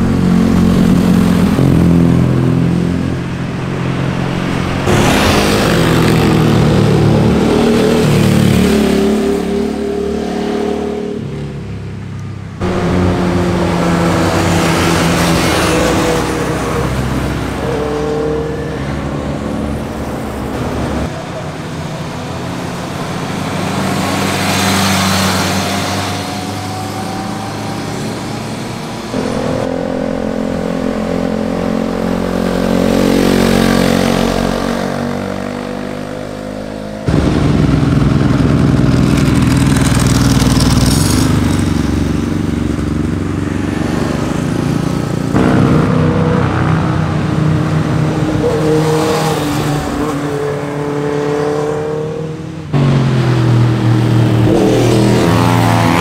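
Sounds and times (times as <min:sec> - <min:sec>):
motorcycles passing: 0:00.0 - 0:56.0.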